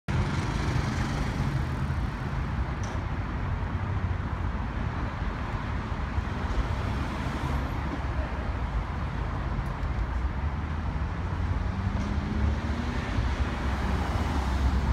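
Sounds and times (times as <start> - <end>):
city street traffic rumble: 0.1 - 14.9.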